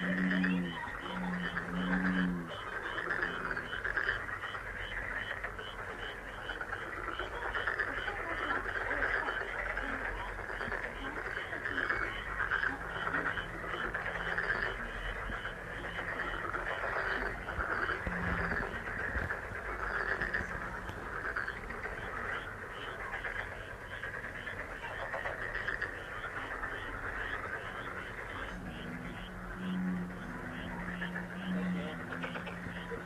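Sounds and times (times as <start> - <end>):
frogs trilling in chorus: 0.0 - 33.0
quick repeated frog chirps: 0.0 - 33.0.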